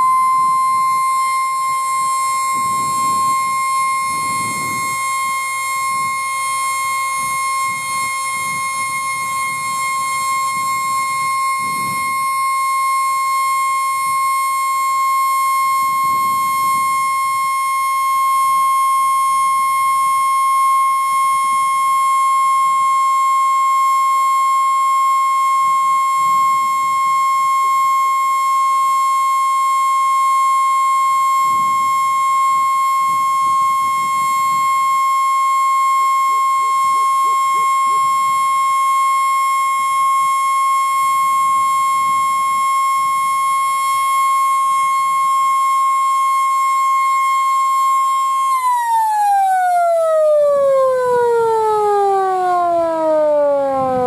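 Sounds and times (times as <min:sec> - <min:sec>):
electric siren screaming: 0:00.0 - 0:54.0.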